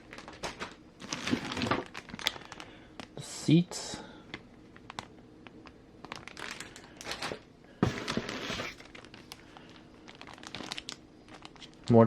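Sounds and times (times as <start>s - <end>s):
plastic packaging crinkling: 0.0s - 3.2s, 4.3s - 12.0s.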